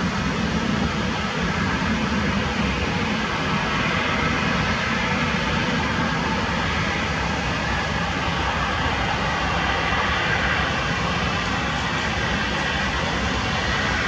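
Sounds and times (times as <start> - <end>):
distant jet engines rushing: 0.0 - 14.0.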